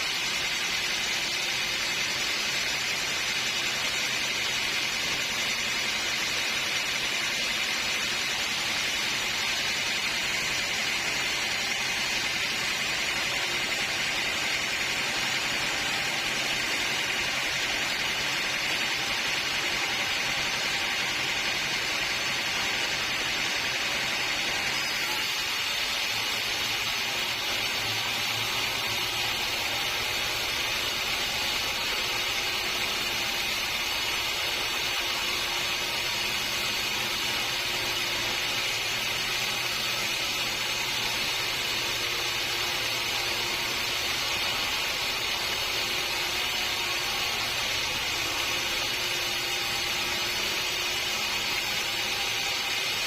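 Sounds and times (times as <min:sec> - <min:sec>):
saw hissing: 0:00.0 - 0:53.0
sawmill machinery running: 0:00.0 - 0:53.0.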